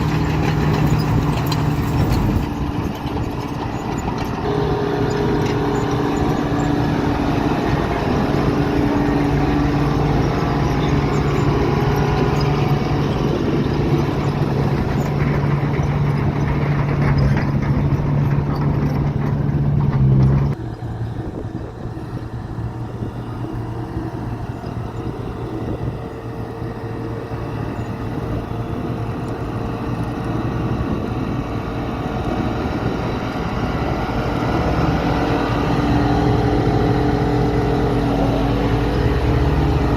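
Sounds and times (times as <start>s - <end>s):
heavy diesel engines running: 0.0s - 39.9s
quieter engine: 0.0s - 39.9s.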